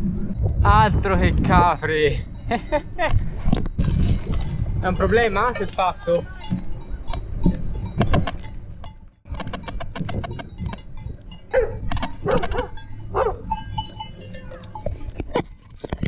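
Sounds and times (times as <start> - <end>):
steady low rumble: 0.0 - 16.0
animal bells clanking: 1.1 - 16.0.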